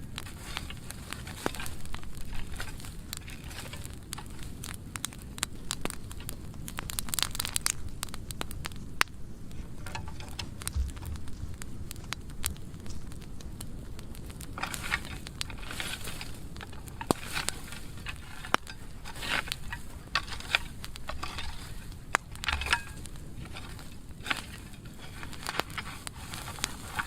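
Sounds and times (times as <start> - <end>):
low rushing of flames: 0.0 - 27.0
wood fire crackling and popping: 0.0 - 27.0.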